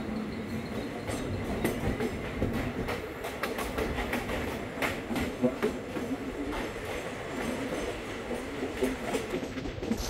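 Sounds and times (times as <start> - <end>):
train rumbling on track: 0.0 - 10.0
wheels clicking over rail joints: 0.7 - 10.0.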